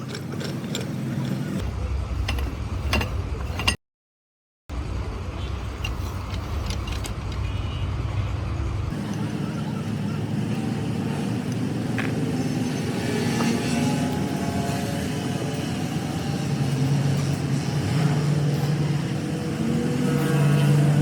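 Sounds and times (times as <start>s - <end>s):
motor vehicle rumbling: 0.0s - 3.8s, 4.7s - 21.0s.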